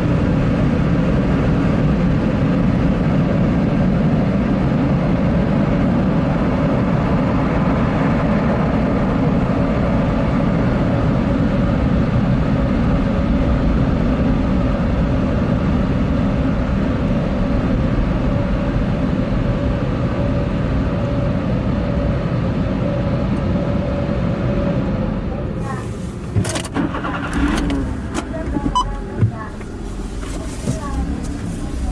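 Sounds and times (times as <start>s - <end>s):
car wash machine rumble: 0.0s - 31.9s.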